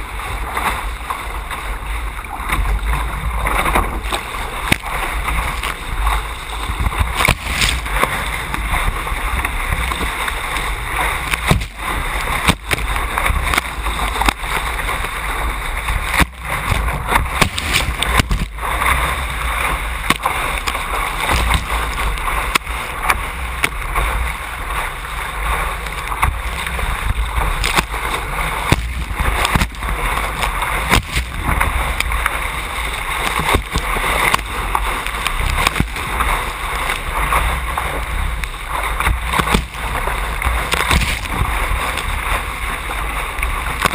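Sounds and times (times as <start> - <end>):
water rushing along hull: 0.0 - 43.9
waves slapping hull: 0.0 - 43.9.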